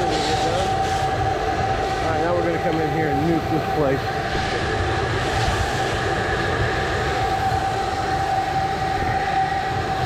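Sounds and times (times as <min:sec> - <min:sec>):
pressure washer running: 0:00.0 - 0:10.0.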